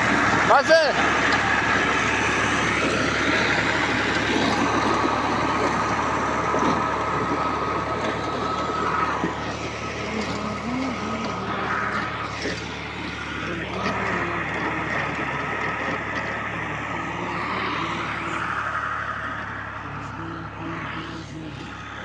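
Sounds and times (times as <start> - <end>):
high whine: 0.0 - 22.0
rotary tiller churning soil: 0.0 - 22.0
tractor diesel engine running: 0.0 - 22.0.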